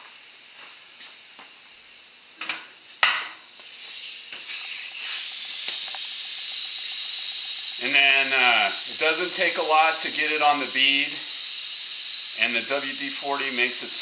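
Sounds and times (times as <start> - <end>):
compressed air hissing: 2.8 - 14.0.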